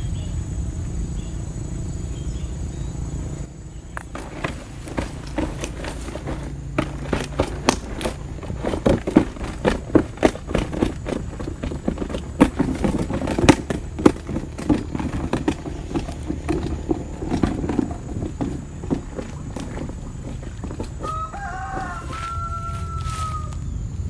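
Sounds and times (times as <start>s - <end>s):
fabric bag rustling and scraping: 4.1s - 23.5s.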